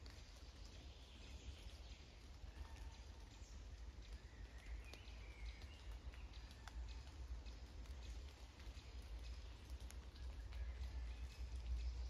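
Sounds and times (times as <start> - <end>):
raindrops tapping: 0.0 - 12.0.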